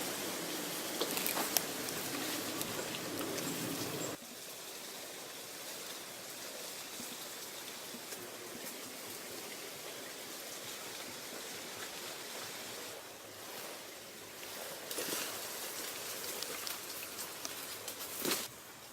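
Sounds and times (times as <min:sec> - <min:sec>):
water running over waterfall: 0:00.0 - 0:18.9.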